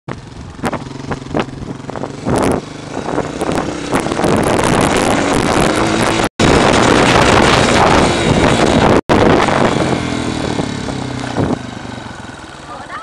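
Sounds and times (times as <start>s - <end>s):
dirt bike engine: 0.1s - 13.0s.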